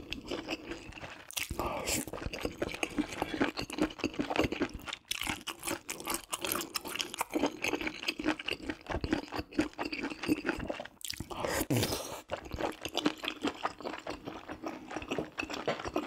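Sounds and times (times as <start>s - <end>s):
person chewing with wet mouth sounds: 0.0s - 16.0s.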